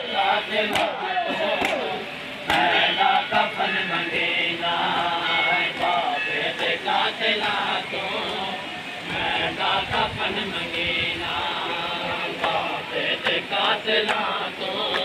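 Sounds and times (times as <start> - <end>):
men chanting a mourning lament: 0.0 - 15.0.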